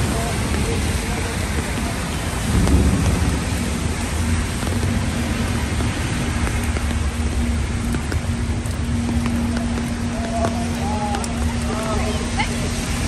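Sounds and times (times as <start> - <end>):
bus passing on wet road: 0.0 - 13.0
heavy rain on street: 0.0 - 13.0.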